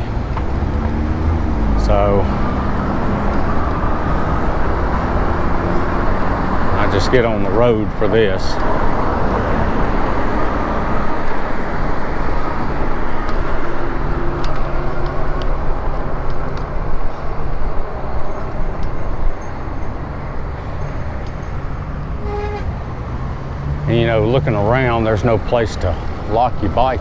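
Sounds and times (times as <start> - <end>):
tyre and road noise: 0.0 - 27.0.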